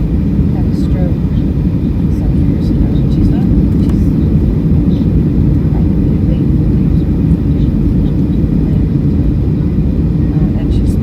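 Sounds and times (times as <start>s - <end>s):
jet engines rumbling: 0.0s - 11.0s
rushing air: 0.0s - 11.0s.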